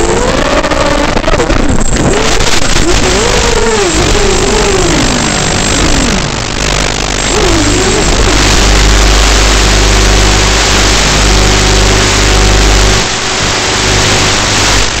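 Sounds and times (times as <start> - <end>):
static hiss: 0.0 - 15.0
low electrical hum: 1.8 - 15.0.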